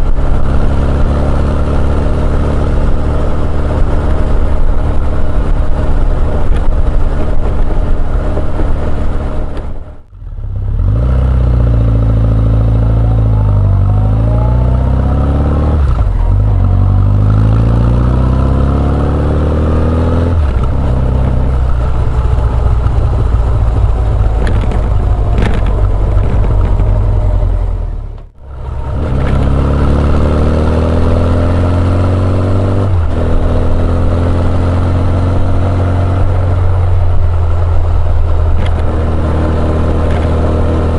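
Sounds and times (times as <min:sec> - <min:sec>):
motorcycle accelerating through gears: 0:00.0 - 0:40.9.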